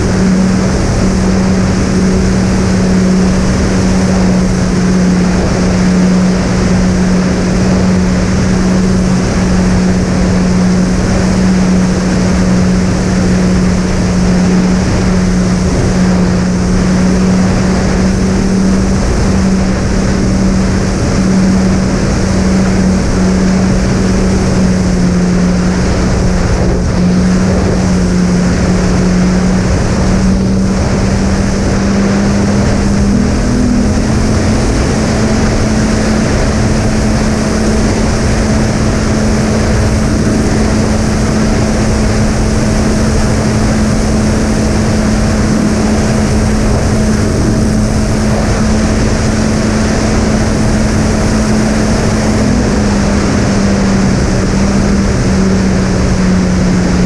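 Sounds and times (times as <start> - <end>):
drone motors humming: 0.0 - 57.0
rushing airflow: 0.0 - 57.0.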